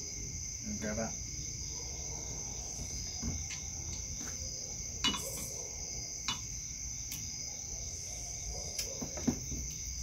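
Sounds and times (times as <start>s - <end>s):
insect trilling: 0.0s - 10.0s.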